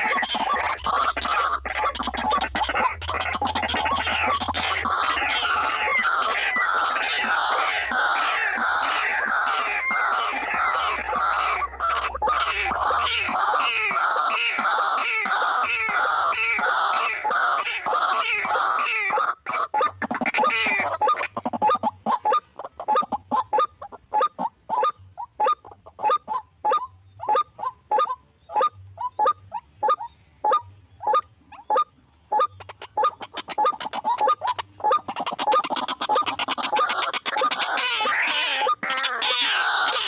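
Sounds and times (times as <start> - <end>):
waterhen harsh croaking calls: 0.0 - 40.0.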